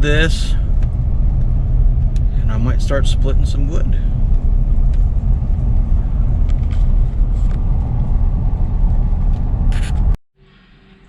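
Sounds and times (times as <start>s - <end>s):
vehicle driving rumble: 0.0s - 10.2s.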